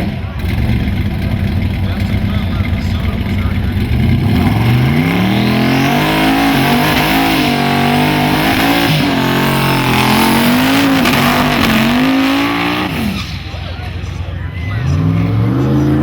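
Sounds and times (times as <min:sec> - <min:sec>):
race car engine at full throttle: 0:00.0 - 0:16.0.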